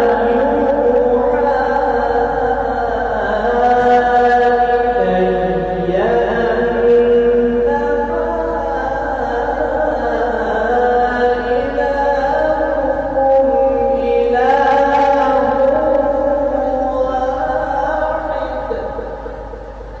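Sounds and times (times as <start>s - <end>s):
man reciting melodically: 0.0s - 19.7s.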